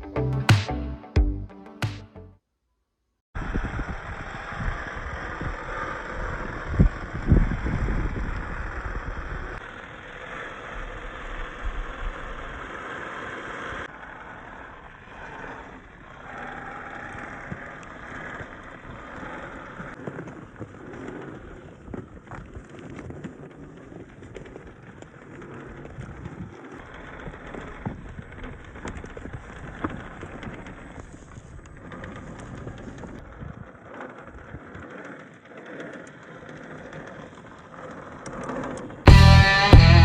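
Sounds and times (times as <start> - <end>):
rc car driving over rough ground: 3.4 - 40.0.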